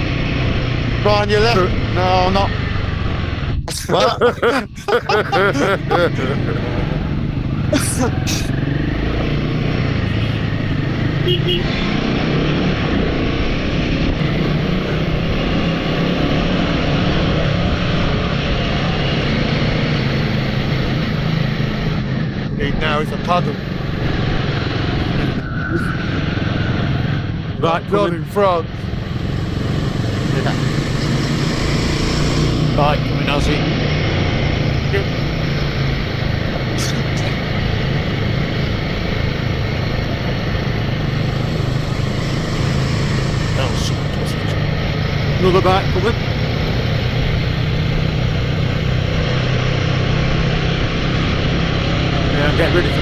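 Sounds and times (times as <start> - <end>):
wind and road noise: 0.0 - 53.0
motorcycle engine drone: 6.3 - 53.0.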